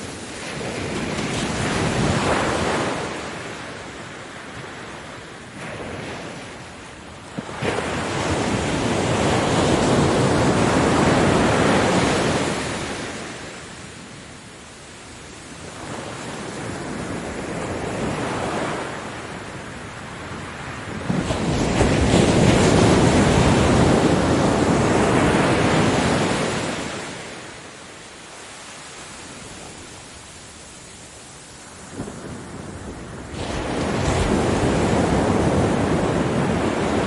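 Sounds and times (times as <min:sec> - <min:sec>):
ocean surf on beach: 0:00.0 - 0:37.0.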